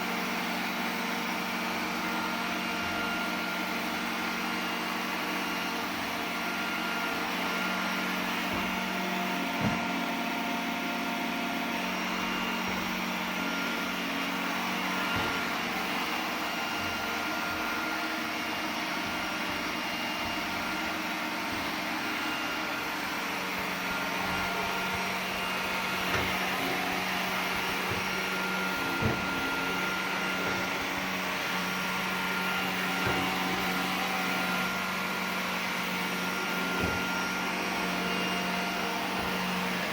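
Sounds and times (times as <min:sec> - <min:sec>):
robot vacuum whirring: 0:00.1 - 0:39.9.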